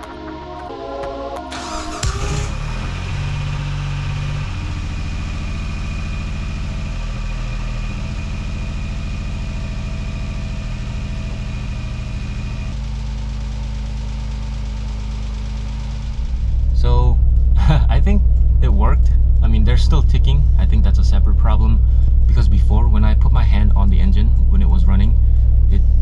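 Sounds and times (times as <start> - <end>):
car engine idling: 1.4 - 26.0
engine ticking: 1.5 - 26.0.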